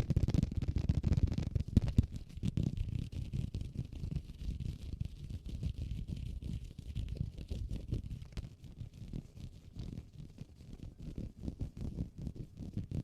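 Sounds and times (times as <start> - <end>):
rapid scratching on key case: 0.0 - 13.0.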